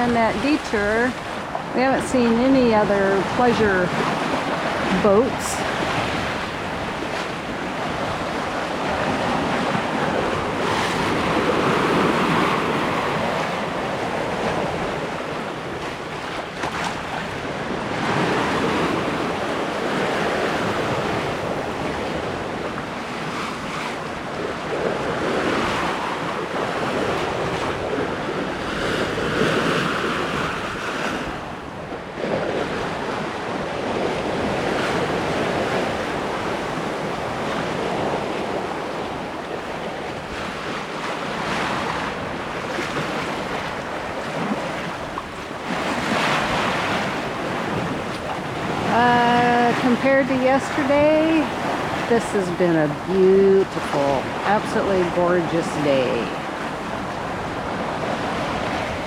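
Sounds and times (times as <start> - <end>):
water splashing along boat hull: 0.0 - 59.0
wind buffeting microphone: 0.0 - 59.0.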